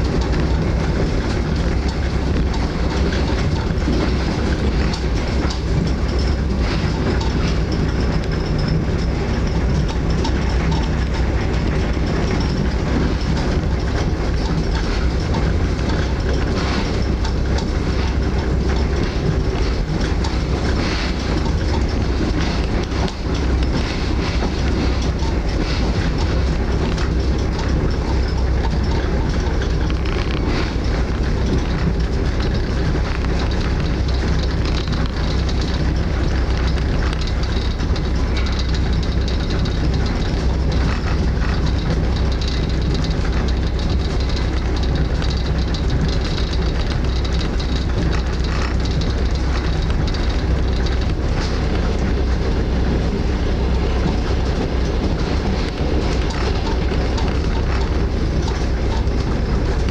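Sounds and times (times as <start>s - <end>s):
faint wheel clicks: 0.0s - 59.9s
train rumble and wheel noise: 0.0s - 59.9s.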